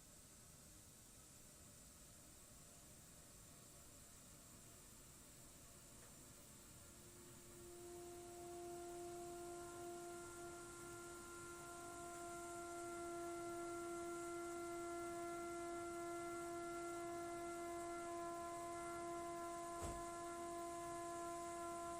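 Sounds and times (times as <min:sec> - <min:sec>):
boiler humming with hiss: 0:00.0 - 0:21.9.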